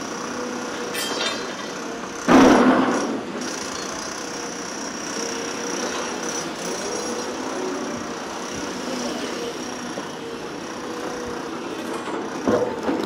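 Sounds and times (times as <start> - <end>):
construction machinery engine: 0.0 - 13.0.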